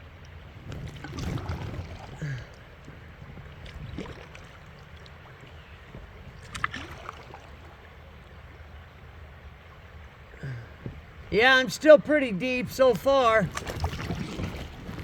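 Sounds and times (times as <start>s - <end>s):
paddle strokes: 0.0s - 8.6s, 9.4s - 15.0s
water running past kayak hull: 0.0s - 15.0s.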